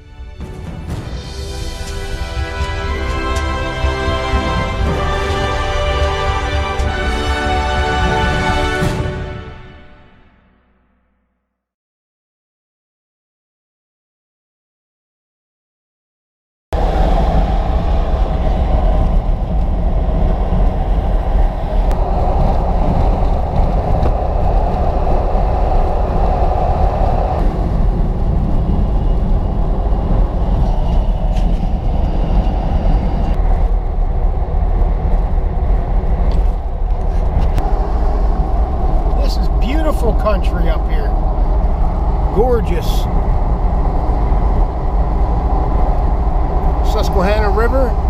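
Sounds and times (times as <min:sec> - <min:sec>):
car road and engine noise: 0:00.0 - 0:10.1, 0:16.8 - 0:48.0.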